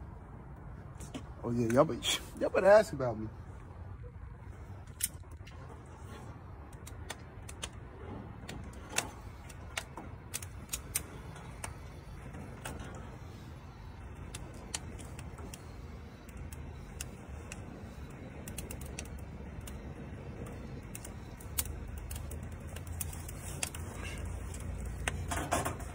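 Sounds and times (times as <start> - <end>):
low steady rumble: 0.0 - 25.9.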